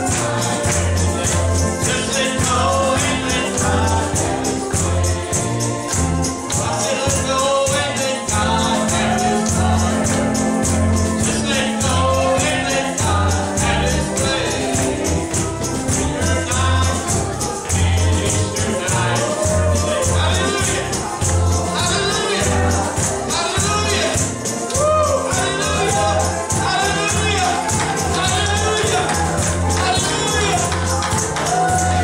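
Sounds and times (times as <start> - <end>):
fast steady percussion: 0.0 - 32.0
gospel singing: 0.0 - 32.0
pulsing bass line: 0.0 - 32.0.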